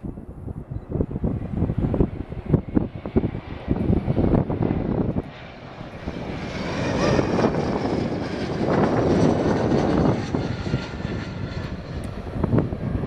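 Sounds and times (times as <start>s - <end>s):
airliner engines passing: 0.0s - 13.0s
wind buffeting microphone: 0.0s - 13.0s.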